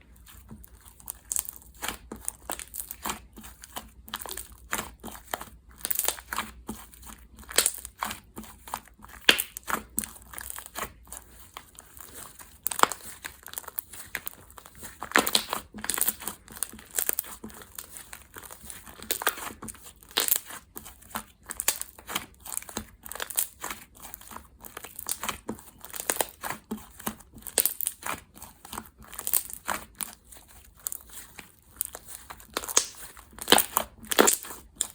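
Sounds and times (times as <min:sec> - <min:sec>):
slime crackling and popping: 0:00.1 - 0:34.9.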